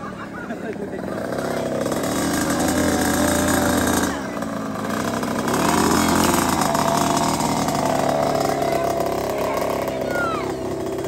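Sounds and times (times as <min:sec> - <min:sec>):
mini motocross bike engine: 0:00.0 - 0:11.0.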